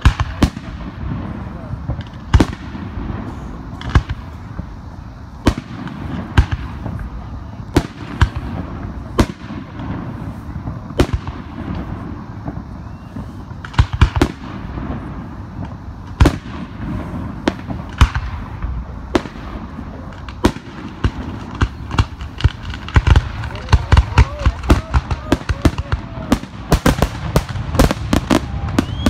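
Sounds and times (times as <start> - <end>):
firework bangs: 0.0 - 29.0.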